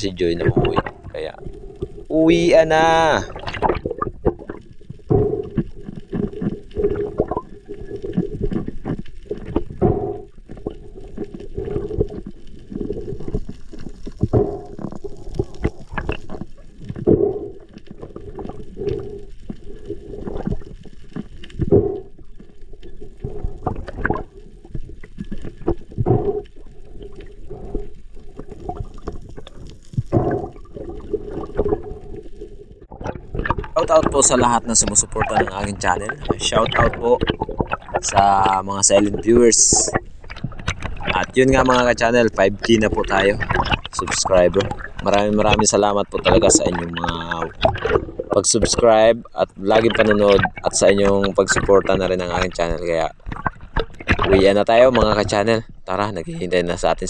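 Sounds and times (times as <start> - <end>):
water sloshing and splashing: 0.2 - 55.9.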